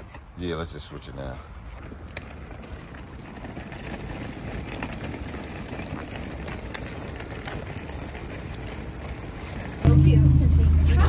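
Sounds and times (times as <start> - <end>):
wagon wheels rolling on asphalt: 0.0 - 11.0.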